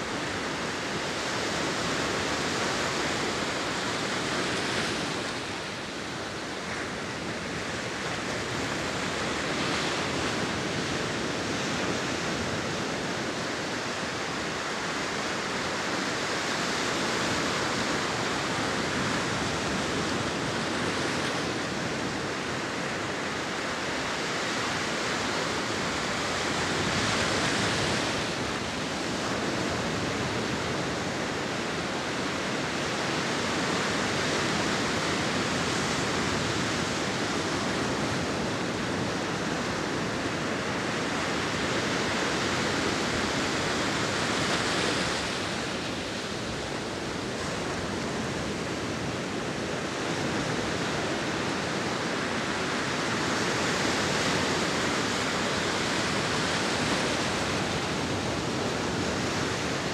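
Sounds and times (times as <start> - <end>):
ocean waves crashing on shore: 0.0 - 59.9.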